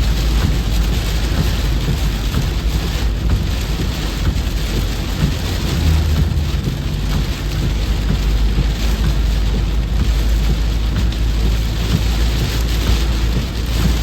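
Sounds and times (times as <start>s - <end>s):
heavy rain: 0.0s - 14.0s
low rumble: 0.0s - 14.0s.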